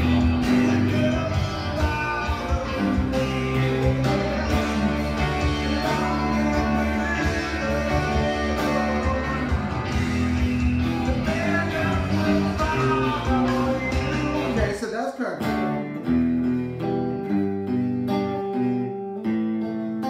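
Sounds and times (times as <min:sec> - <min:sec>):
electric guitar chords and picked notes: 0:00.0 - 0:20.0.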